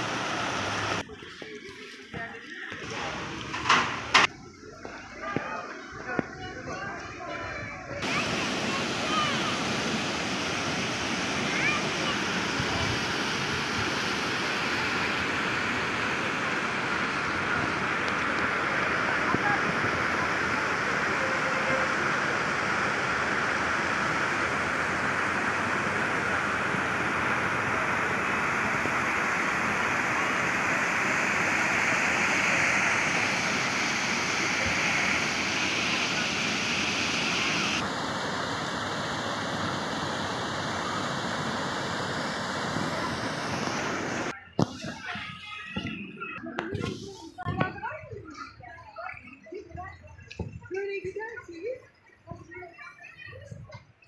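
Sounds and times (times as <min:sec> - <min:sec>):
stream rushing over weirs: 0:00.0 - 0:07.1, 0:08.0 - 0:45.3.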